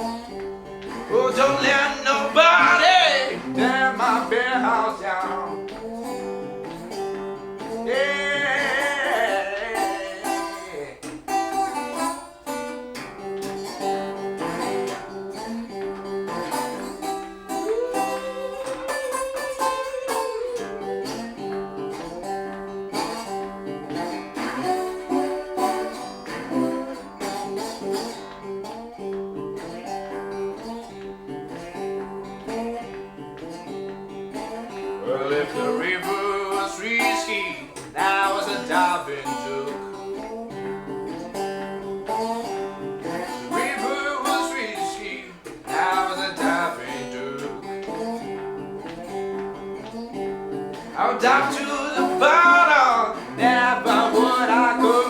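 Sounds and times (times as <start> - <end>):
slide blues resonator guitar: 0.0 - 55.0.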